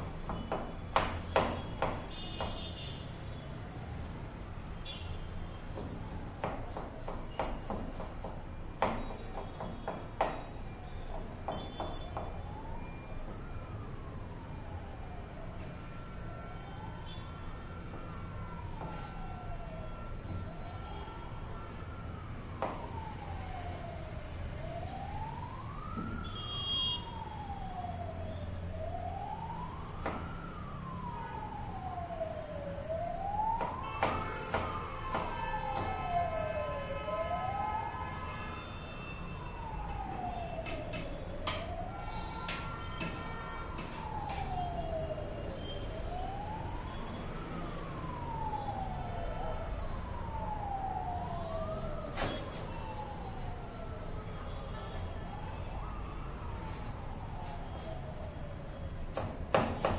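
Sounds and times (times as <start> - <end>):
siren wailing: 10.3 - 59.9.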